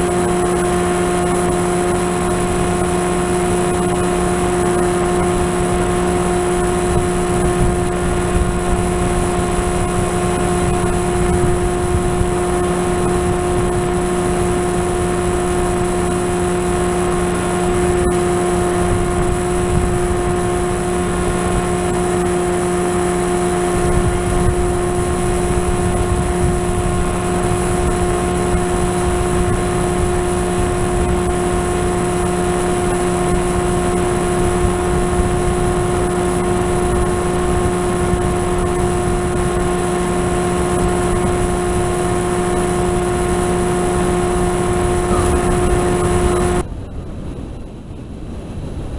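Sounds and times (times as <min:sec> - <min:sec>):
model aircraft motor and propeller: 0:00.0 - 0:46.7
wind rushing over microphone: 0:00.0 - 0:48.9.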